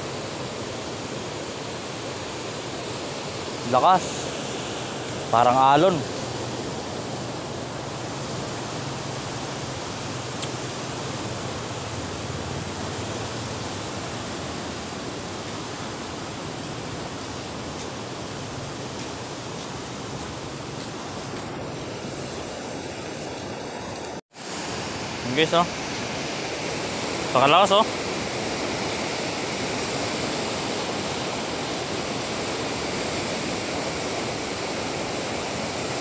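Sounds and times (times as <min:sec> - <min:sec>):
water rushing through dam gates: 0:00.0 - 0:21.4, 0:22.0 - 0:36.0.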